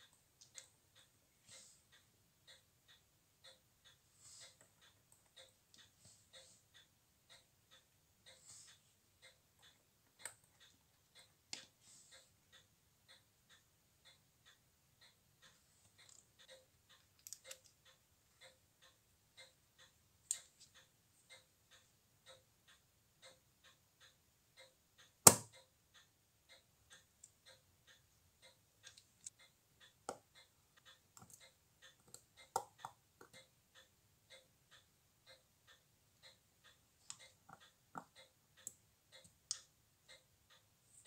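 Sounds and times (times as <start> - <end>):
mechanical watch ticking: 0.0 - 41.0.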